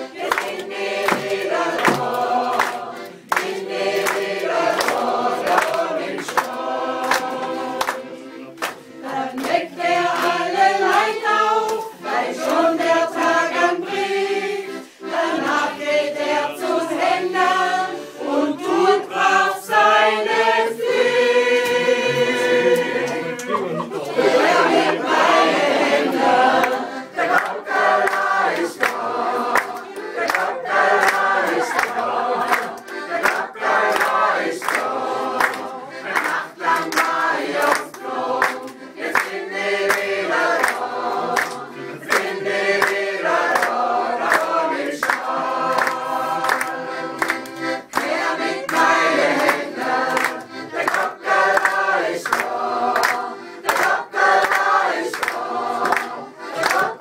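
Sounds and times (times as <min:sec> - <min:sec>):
group singing rhythmic syllables: 0:00.0 - 0:57.0.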